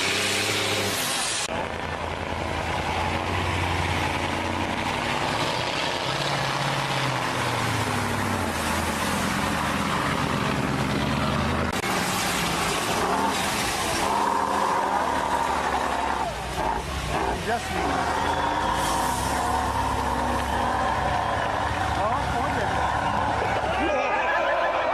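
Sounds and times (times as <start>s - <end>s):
diesel truck engine revving: 0.0s - 24.9s.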